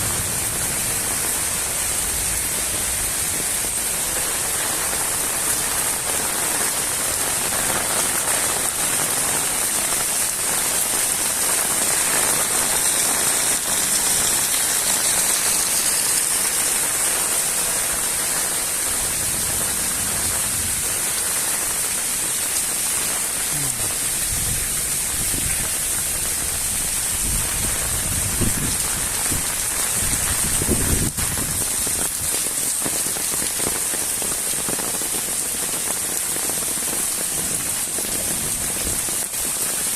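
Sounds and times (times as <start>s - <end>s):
heavy rain splashing: 0.0s - 39.9s.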